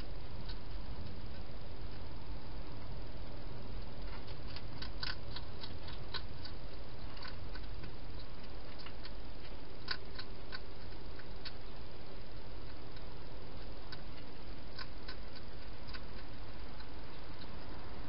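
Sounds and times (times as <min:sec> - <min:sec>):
hedgehog chewing crunches: 0:00.0 - 0:18.0
steady hiss: 0:00.0 - 0:18.0.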